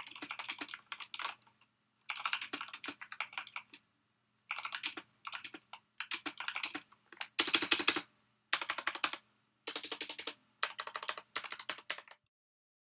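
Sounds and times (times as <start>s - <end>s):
mechanical keyboard typing: 0.0s - 1.5s, 2.1s - 3.8s, 4.5s - 12.3s.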